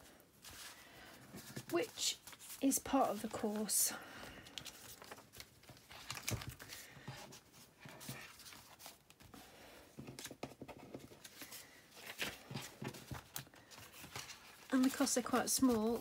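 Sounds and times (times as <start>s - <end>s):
paper and card rustling: 0.3s - 16.0s.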